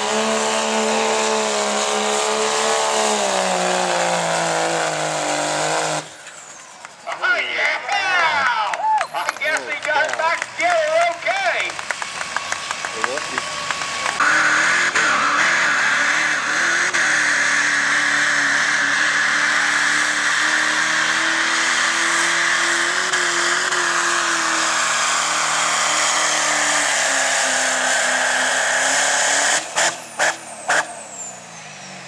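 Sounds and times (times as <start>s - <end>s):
diesel truck engine at full throttle: 0.0s - 32.0s.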